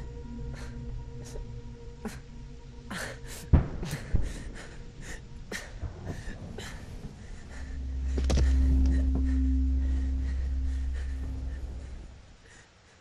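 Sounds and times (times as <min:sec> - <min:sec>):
low drone: 0:00.0 - 0:12.8
man breathing hard: 0:00.4 - 0:13.0.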